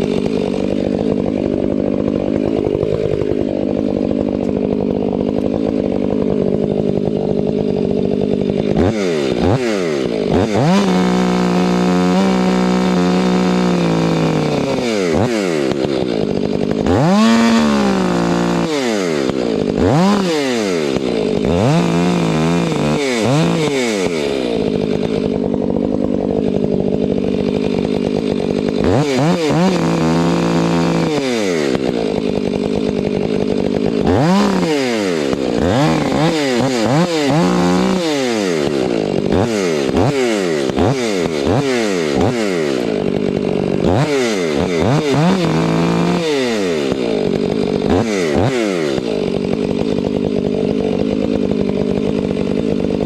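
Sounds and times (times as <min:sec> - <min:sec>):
chainsaw engine revving: 0:00.0 - 0:53.0.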